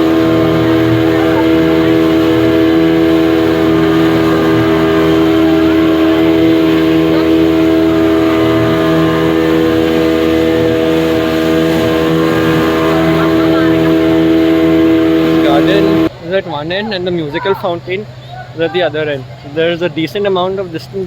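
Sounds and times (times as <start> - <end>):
motorboat engine droning: 0.0 - 21.0.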